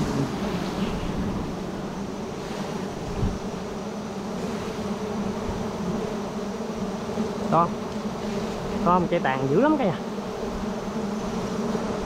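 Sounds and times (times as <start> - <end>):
honeybee swarm buzzing: 0.0 - 12.0.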